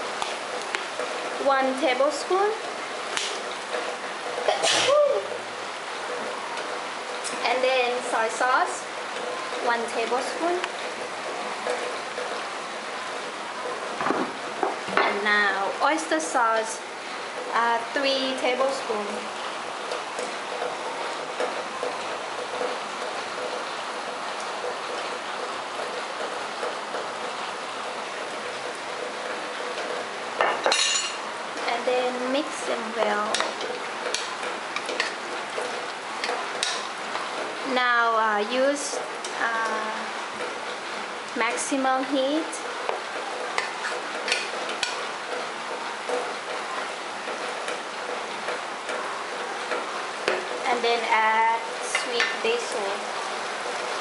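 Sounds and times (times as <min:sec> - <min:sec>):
food sizzling in a pot: 0:00.0 - 0:54.0.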